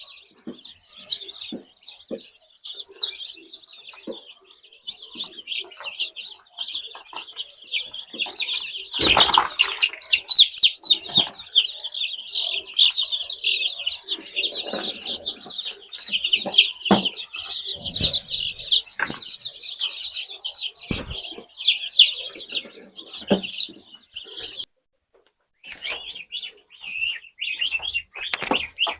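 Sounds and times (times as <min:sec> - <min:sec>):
chicks peeping: 0:00.0 - 0:28.9.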